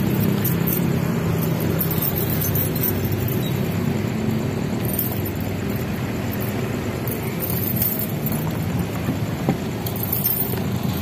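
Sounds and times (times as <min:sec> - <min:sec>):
cars passing: 0:00.0 - 0:11.0
diesel truck engine humming: 0:00.0 - 0:11.0
motorcycles passing: 0:00.0 - 0:11.0.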